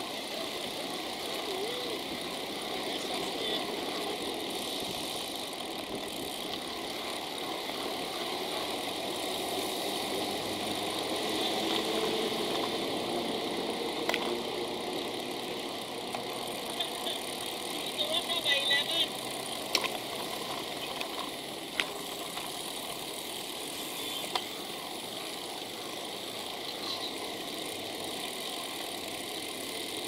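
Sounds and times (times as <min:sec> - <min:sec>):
car and truck engines running: 0:00.0 - 0:30.0
steady road noise: 0:00.0 - 0:30.0.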